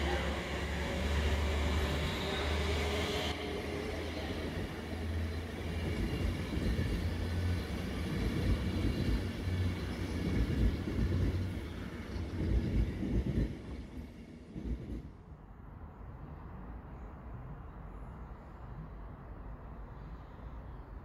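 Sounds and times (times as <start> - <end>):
train rumbling: 0.0 - 20.5.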